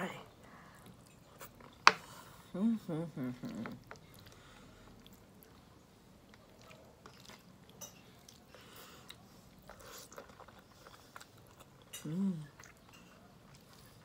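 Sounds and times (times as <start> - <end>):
person chewing food: 0.4 - 2.4, 3.3 - 14.0.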